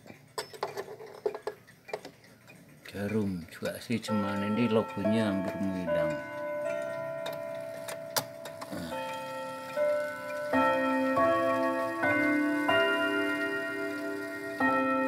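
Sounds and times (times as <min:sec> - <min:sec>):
wall clock chiming: 0:02.5 - 0:15.0.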